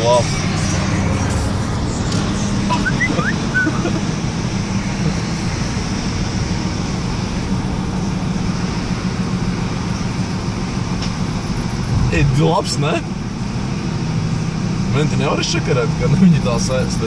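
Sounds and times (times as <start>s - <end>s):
car engine hum and tyre rumble: 0.0s - 17.0s.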